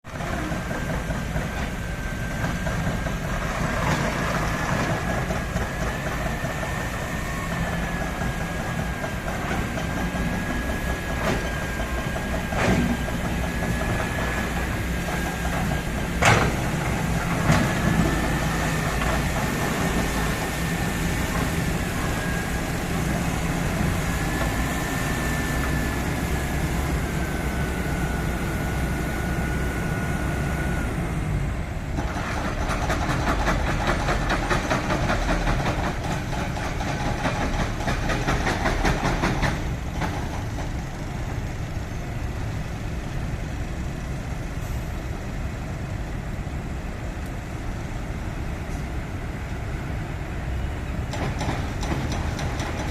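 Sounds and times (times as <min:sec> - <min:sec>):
excavator diesel engine running: 0:00.1 - 0:52.9.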